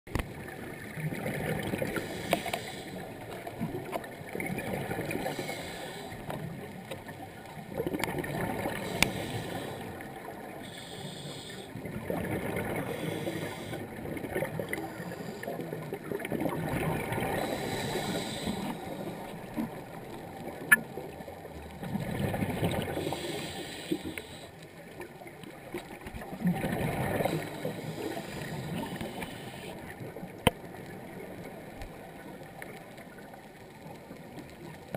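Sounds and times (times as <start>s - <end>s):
underwater bubbles gurgling: 0.1s - 34.9s.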